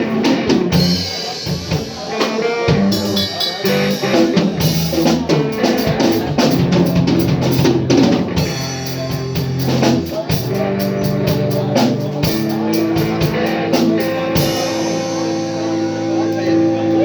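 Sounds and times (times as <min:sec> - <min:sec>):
live band instrumental: 0:00.0 - 0:17.0.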